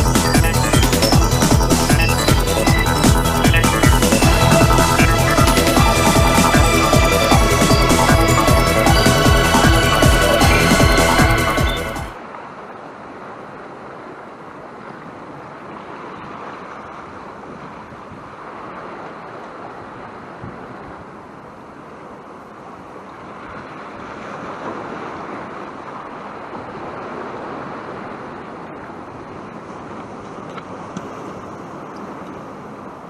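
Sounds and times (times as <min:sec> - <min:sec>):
wind: 0:00.0 - 0:33.0.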